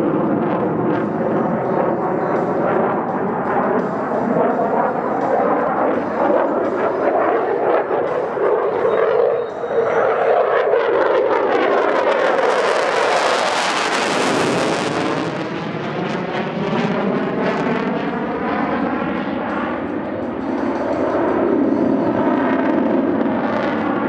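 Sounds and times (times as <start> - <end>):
jet engine roaring past: 0.0 - 24.0.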